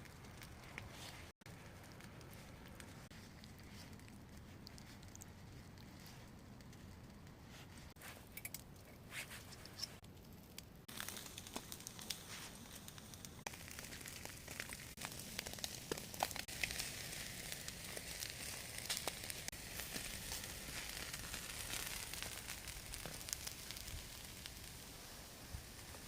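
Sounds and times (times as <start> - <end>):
chicken sizzling with crackling pops: 0.0 - 26.0.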